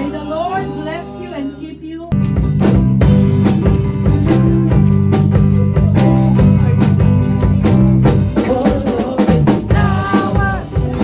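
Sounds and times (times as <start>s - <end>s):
drums keeping a beat: 2.1s - 11.0s
heavy bass notes: 2.1s - 11.0s.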